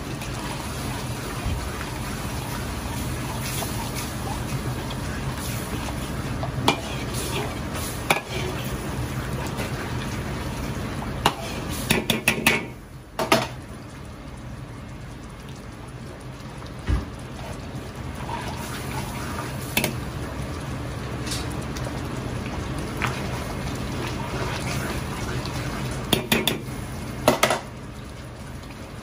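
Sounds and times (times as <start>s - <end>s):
sauce bubbling and sizzling: 0.0s - 29.0s.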